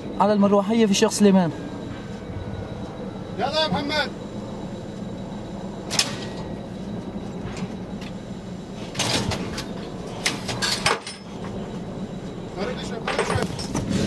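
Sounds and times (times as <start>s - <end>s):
steady low drone: 0.0s - 14.0s.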